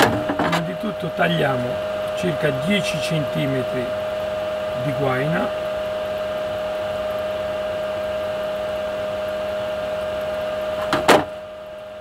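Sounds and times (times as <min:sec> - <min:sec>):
machine drone: 0:00.0 - 0:12.0.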